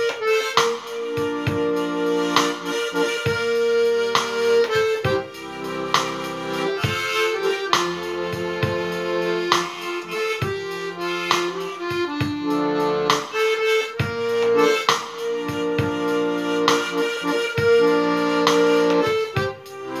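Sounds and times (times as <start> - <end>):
accordion playing a tune: 0.0 - 20.0
harmonica long held notes: 0.0 - 20.0.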